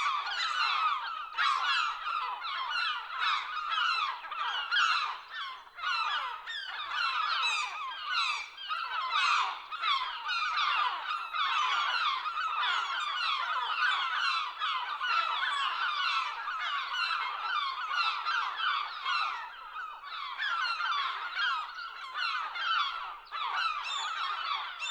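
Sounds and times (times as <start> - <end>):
flock of gulls calling: 0.0 - 24.9.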